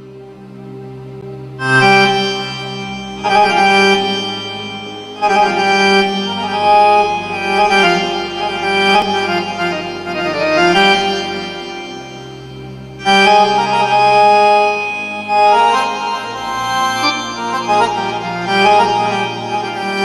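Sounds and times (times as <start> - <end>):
low drone: 0.0 - 20.0
reedy melody instrument: 0.0 - 20.0.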